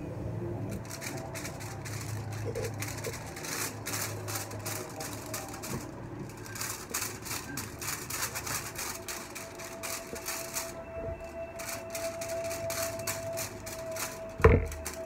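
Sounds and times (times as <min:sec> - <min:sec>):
aluminium foils crinkling: 0:00.5 - 0:15.0
tint brush on foil: 0:00.6 - 0:15.0.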